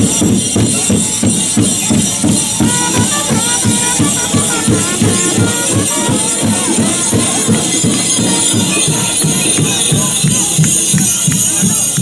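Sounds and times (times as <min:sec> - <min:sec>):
music with quick beat and melody: 0:00.0 - 0:12.0.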